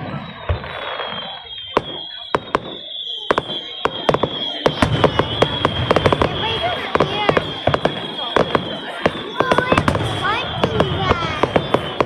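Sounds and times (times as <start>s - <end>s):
fireworks cracks and bangs: 0.0s - 12.0s
high whistling tone: 0.0s - 12.0s.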